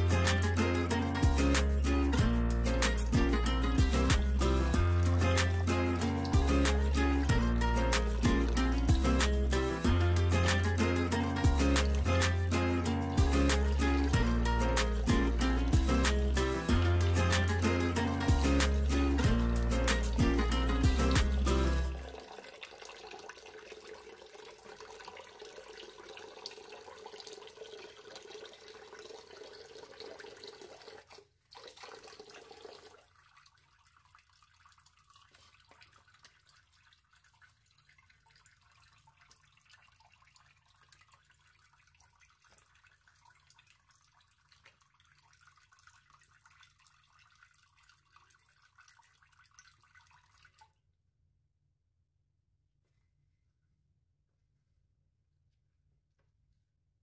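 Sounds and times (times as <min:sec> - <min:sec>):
tap water running into basin: 0:00.0 - 0:50.7
faint water drips: 0:00.0 - 0:50.8.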